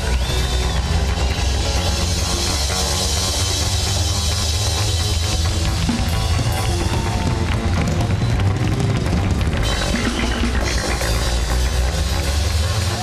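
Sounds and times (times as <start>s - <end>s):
drums and cymbals: 0.0s - 13.0s
heavy bass line: 0.0s - 13.0s
live band playing: 0.0s - 13.0s.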